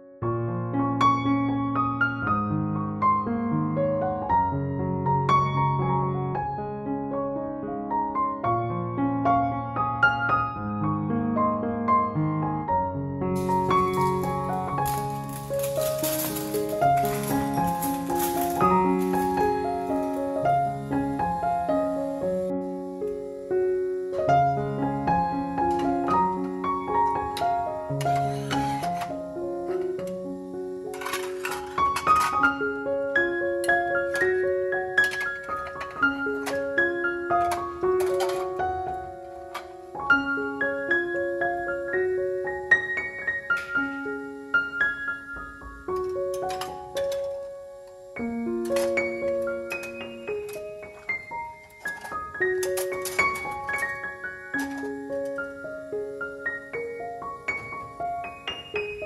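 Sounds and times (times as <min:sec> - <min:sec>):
gentle piano melody: 0:00.0 - 0:59.0.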